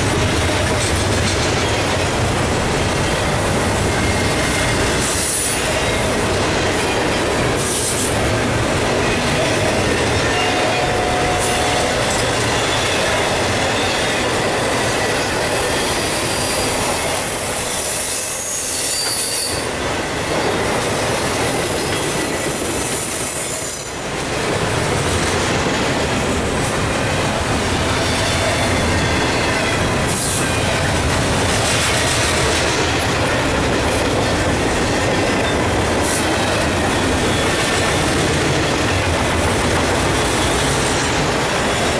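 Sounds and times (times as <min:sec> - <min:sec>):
freight train wheels clattering: 0:00.0 - 0:41.9.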